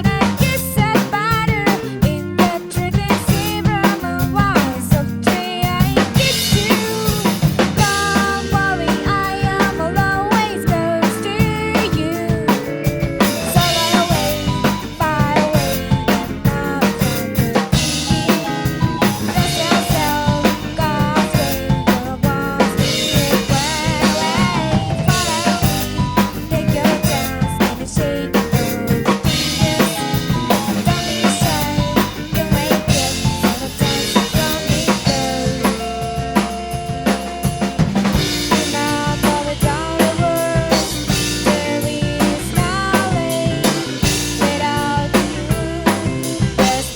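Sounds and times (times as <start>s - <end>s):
drum kit playing: 0.0s - 46.9s
recorded pop song: 0.0s - 46.9s.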